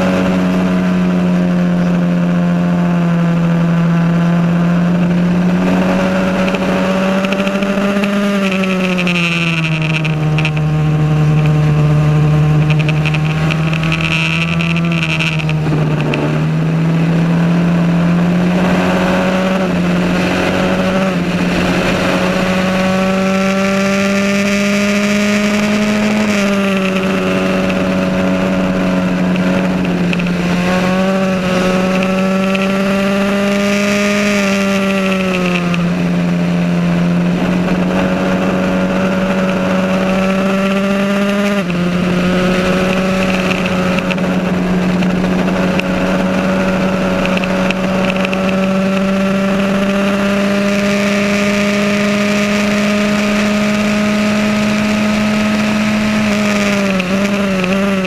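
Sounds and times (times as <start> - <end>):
racing car engine revving hard: 0.0 - 58.0.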